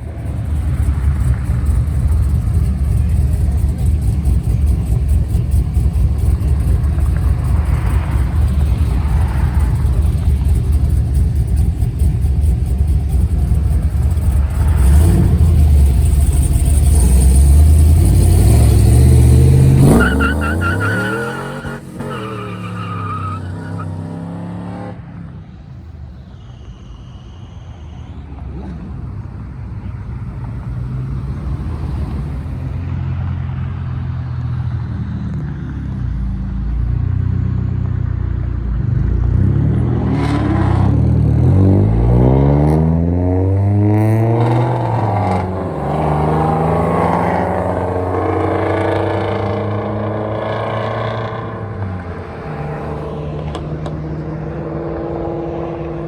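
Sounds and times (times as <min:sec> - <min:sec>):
car engine revving and accelerating: 0:00.0 - 0:25.2, 0:28.3 - 0:56.0.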